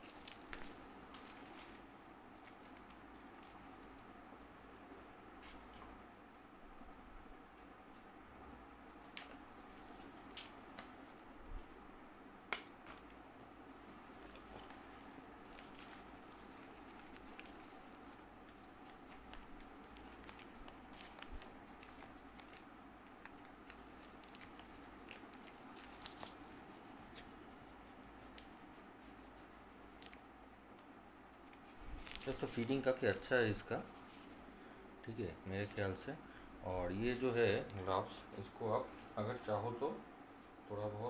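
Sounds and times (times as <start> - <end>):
hands rustling fabric gloves: 0.0 - 5.6, 8.9 - 11.7, 12.5 - 34.6, 37.1 - 39.6
steady low hum: 0.0 - 41.0.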